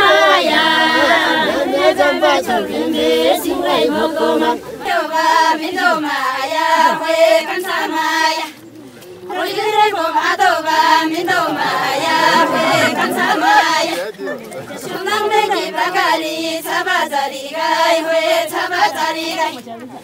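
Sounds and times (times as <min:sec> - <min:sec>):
women singing folk song: 0:00.0 - 0:20.0.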